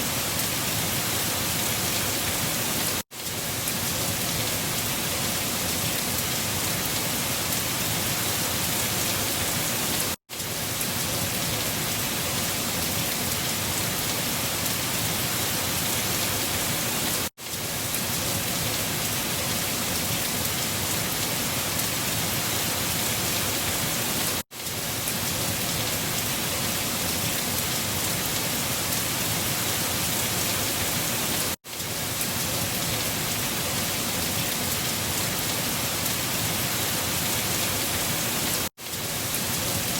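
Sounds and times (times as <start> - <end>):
rain: 0.0 - 39.9
wind: 0.0 - 39.9.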